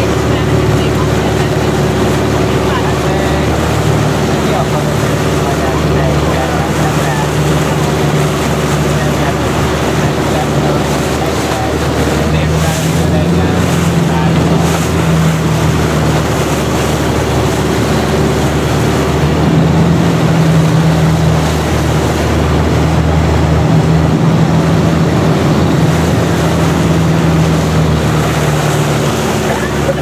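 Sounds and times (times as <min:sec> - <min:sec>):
boat engine running: 0:00.0 - 0:30.0
water rushing past boat: 0:00.0 - 0:30.0.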